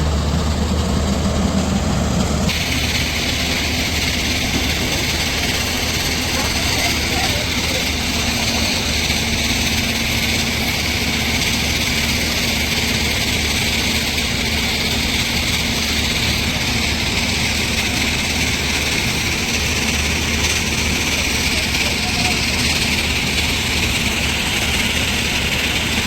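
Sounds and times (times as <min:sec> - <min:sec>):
excavator diesel engine drone: 0:00.0 - 0:26.0
steady hiss: 0:02.5 - 0:26.0.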